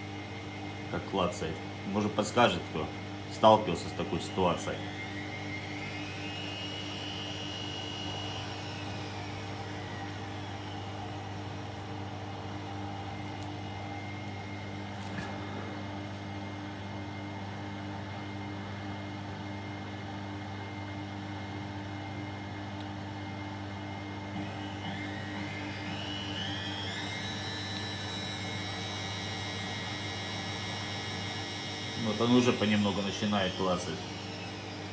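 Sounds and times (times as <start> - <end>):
washing machine spinning: 0.0 - 34.9.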